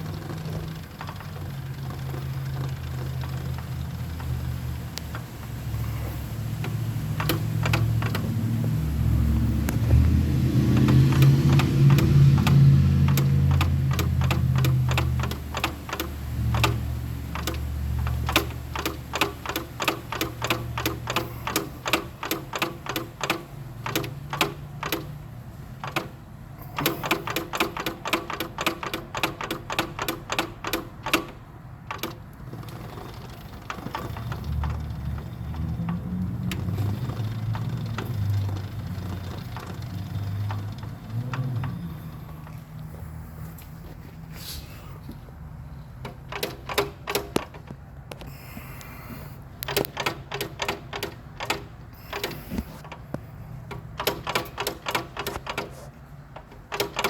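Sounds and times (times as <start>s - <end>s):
rhythmic transmission clunking: 0.0s - 44.3s, 45.0s - 57.0s
low drivetrain hum: 0.0s - 57.0s.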